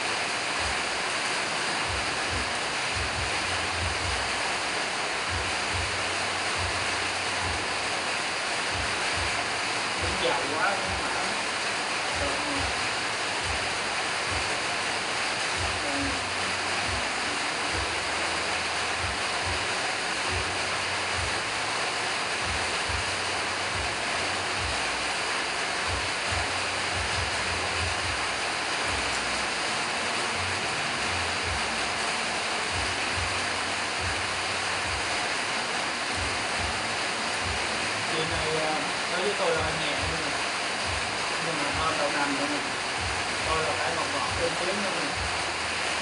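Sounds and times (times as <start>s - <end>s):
steady rushing noise: 0.0s - 46.0s.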